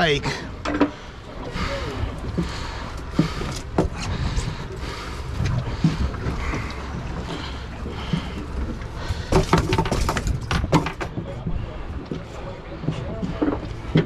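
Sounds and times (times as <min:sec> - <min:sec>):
wind and boat rumble: 0:00.0 - 0:14.0.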